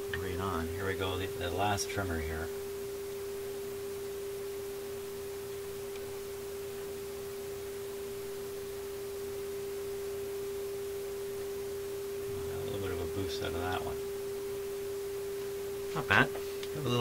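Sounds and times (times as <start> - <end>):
steady test tone from radio: 0.0 - 17.0.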